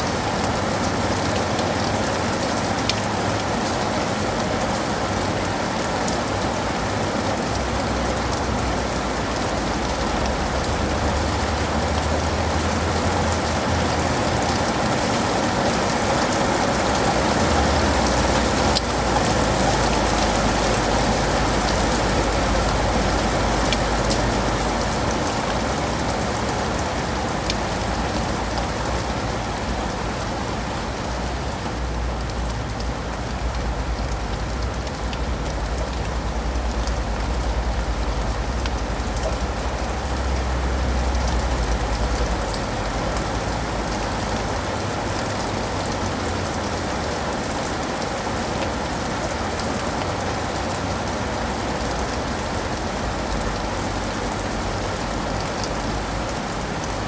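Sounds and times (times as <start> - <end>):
rain falling on leaves and pavement: 0.0 - 57.0.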